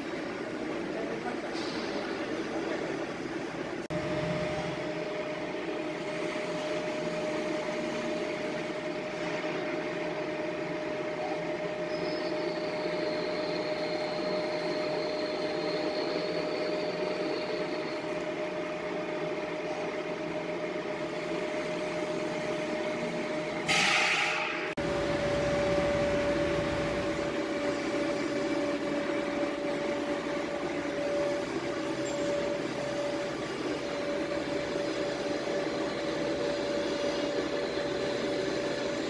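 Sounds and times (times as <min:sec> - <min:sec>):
machine hum: 0:00.0 - 0:39.0
faint high whine: 0:03.9 - 0:39.0.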